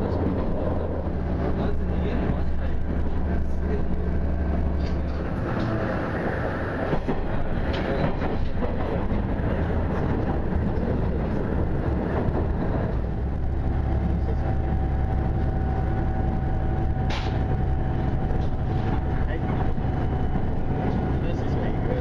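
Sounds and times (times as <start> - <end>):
railcar engine and wheels rumbling: 0.0 - 22.0.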